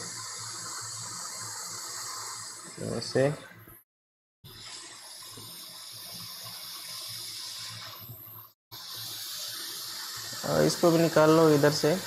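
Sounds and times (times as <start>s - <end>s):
hot-air station airflow hiss: 0.0s - 3.5s, 4.5s - 12.0s.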